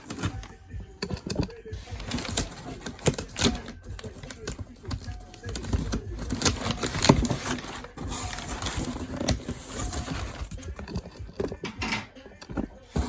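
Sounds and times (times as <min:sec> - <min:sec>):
clicks and knocks: 0:00.0 - 0:13.0
packaging rustling: 0:00.0 - 0:13.0.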